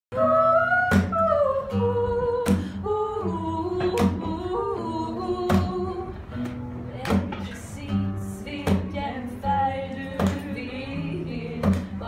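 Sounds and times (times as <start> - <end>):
strummed acoustic guitar: 0.2 - 12.0.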